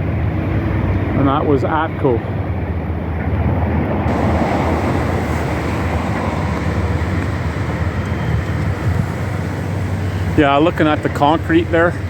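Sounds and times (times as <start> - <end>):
vehicle rumble and road noise: 0.0 - 12.0.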